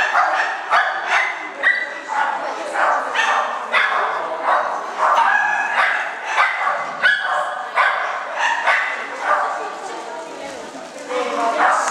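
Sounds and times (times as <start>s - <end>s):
dog barking: 0.0s - 9.6s, 11.6s - 11.9s.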